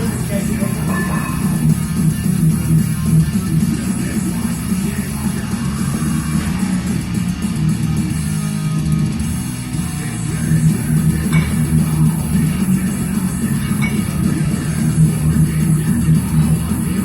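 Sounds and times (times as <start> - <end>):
guitar rock music: 0.0 - 17.0.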